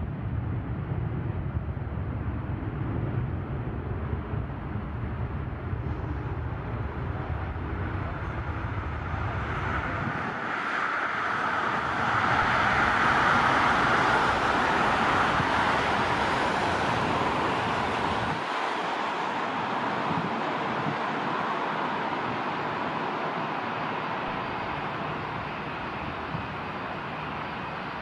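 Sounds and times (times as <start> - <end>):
jet airliner passing: 3.9 - 28.0.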